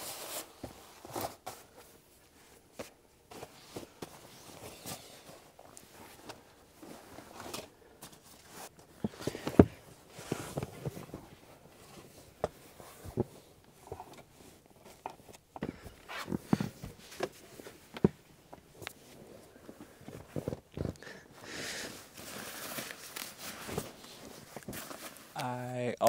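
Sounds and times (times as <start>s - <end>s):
bedding rustling and thumps: 0.0s - 25.3s.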